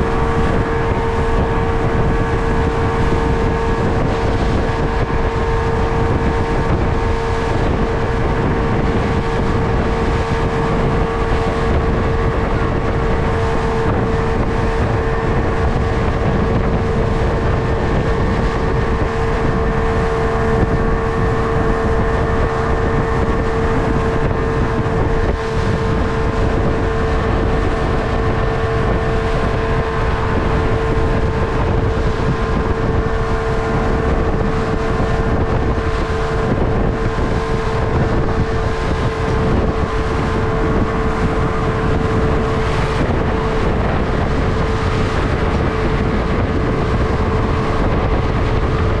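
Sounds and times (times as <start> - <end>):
speedboat engine droning: 0.0 - 49.0
wind noise on microphone: 0.0 - 49.0.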